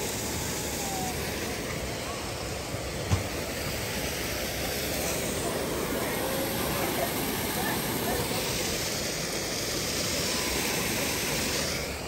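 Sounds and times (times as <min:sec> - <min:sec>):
waterfall rushing into pond: 0:00.0 - 0:12.0.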